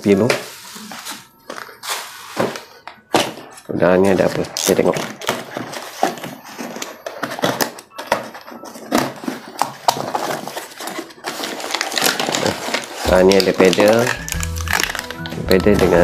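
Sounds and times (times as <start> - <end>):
cardboard box rustling: 0.4 - 15.0.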